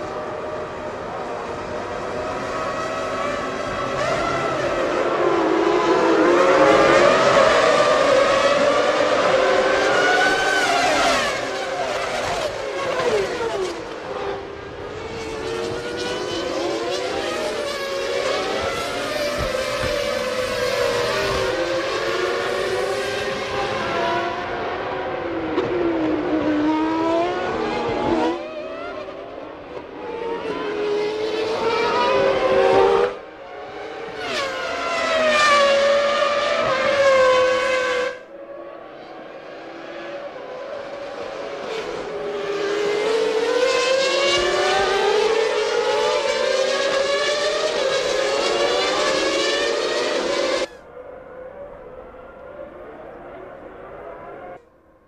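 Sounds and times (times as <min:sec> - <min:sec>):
racing car engines revving: 0:00.0 - 0:54.7.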